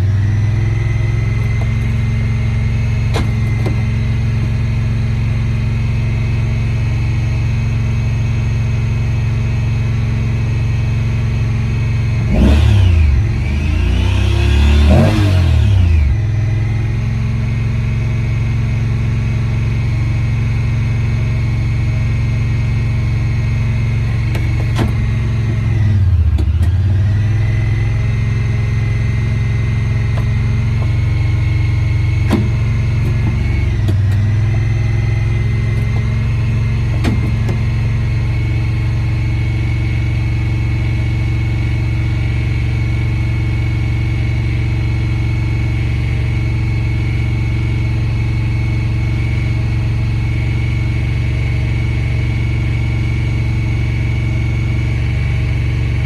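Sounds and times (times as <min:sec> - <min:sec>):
vehicle engine idling: 0:00.0 - 0:12.3, 0:16.0 - 0:56.0.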